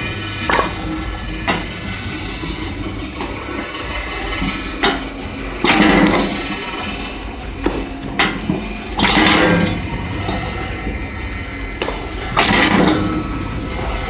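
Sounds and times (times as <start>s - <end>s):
rushing noise bursts: 0.0s - 14.0s
wood-processing machine running: 0.0s - 14.0s.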